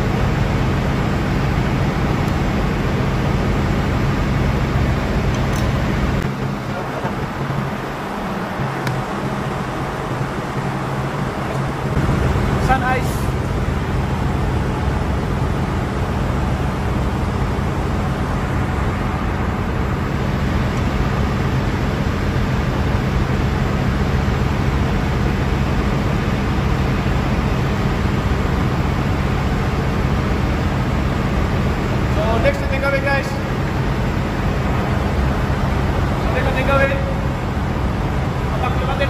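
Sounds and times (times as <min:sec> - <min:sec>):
ship machinery drone: 0:00.0 - 0:39.0.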